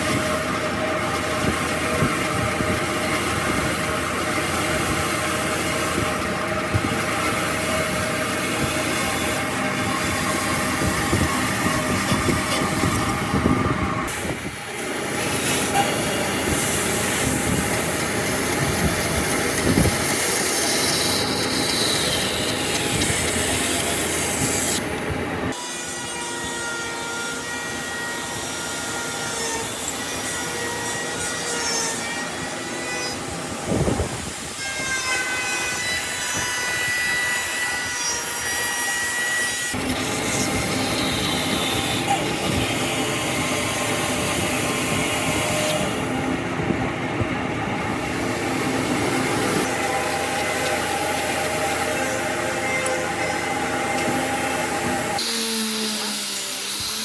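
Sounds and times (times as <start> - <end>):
power tools running on wood: 0.0 - 57.0.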